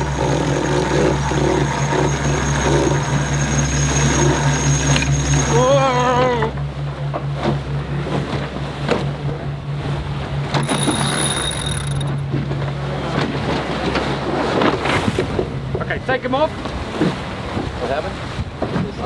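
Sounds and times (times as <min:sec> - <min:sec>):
low hum: 0:00.0 - 0:18.5
rushing water: 0:00.0 - 0:19.0
wind: 0:00.0 - 0:19.0.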